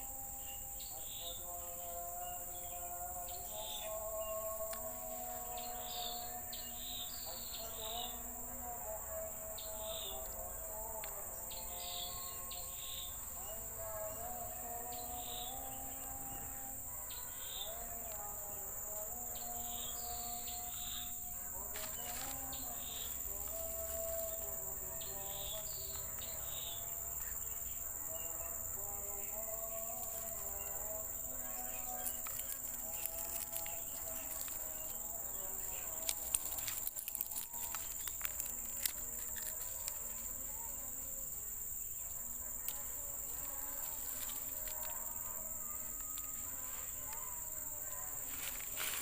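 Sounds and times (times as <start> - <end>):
insect chirps: 0.0 - 49.0
insects droning high-pitched: 0.0 - 49.0.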